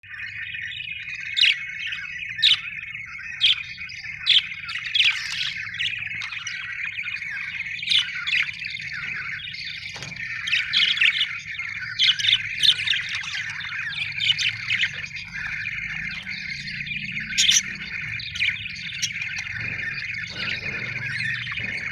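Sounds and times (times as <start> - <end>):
budgerigars chattering: 0.1 - 21.9.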